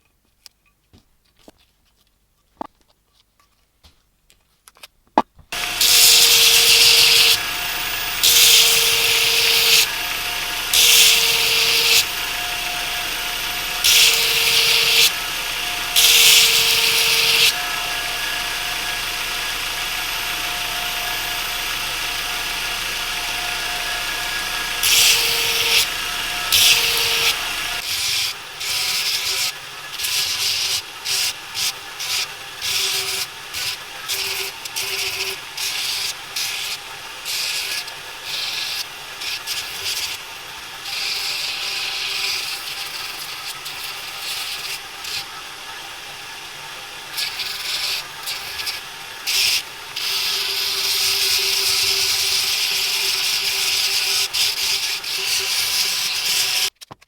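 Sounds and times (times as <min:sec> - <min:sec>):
power tool running: 0:05.5 - 0:56.7
metal being ground: 0:05.6 - 0:56.7.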